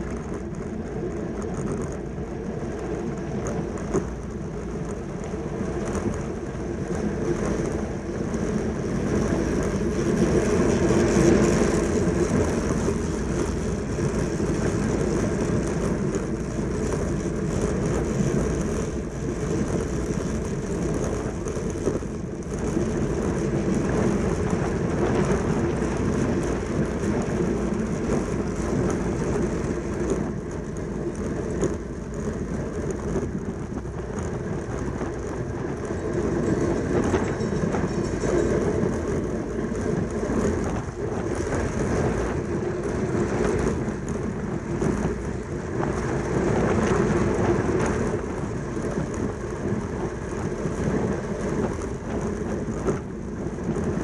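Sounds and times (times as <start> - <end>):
bicycle rolling rumble: 0.0 - 54.0
rushing wind: 0.0 - 54.0.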